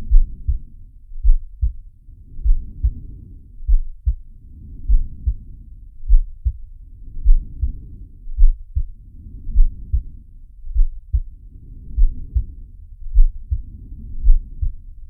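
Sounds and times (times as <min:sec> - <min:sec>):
slow heartbeat: 0:00.0 - 0:15.0.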